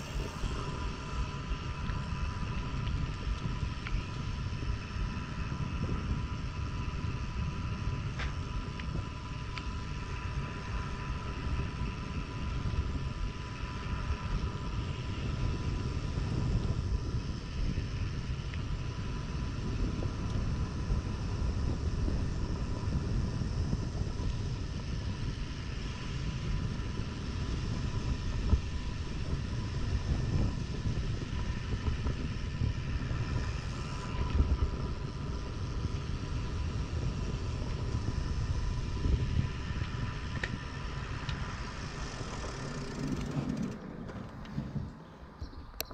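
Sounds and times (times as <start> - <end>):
bike tyres rumbling over ground: 0.0 - 45.9
faint steady whine: 0.0 - 45.9
wind buffeting microphone: 0.0 - 45.9.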